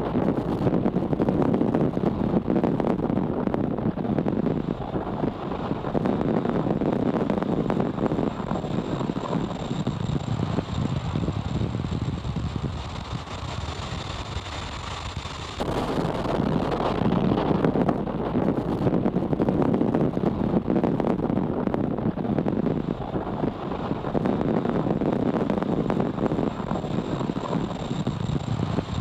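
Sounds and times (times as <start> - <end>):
rocket engines rumbling: 0.0 - 29.0.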